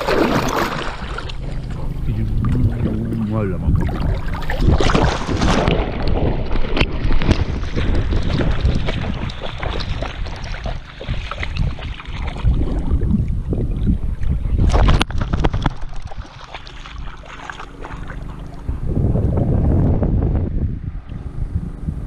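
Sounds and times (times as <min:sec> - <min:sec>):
river water splashing: 0:00.0 - 0:19.2
wind buffeting microphone: 0:00.0 - 0:22.0.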